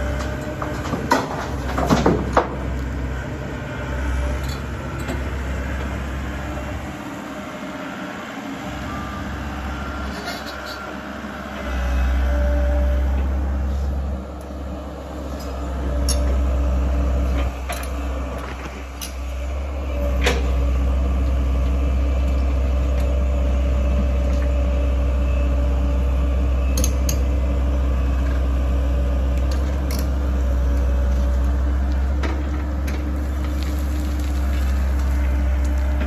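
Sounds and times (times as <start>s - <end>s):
excavator diesel engine rumbling: 0.0s - 36.0s.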